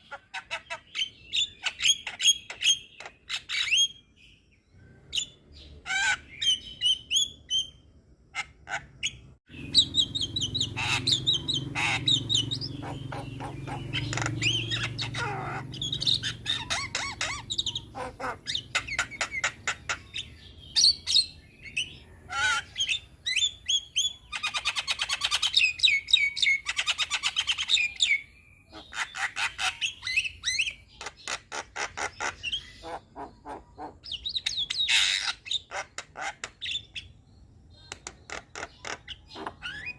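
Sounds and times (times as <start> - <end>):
bird singing whistles and squawks: 0.0 - 4.2, 4.8 - 7.8, 8.4 - 37.2, 37.8 - 39.9.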